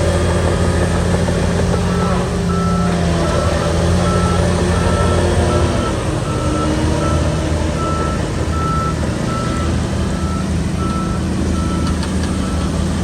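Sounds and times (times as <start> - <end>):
bulldozer diesel engine: 0.0 - 13.0
reverse alarm beeping: 1.9 - 12.7.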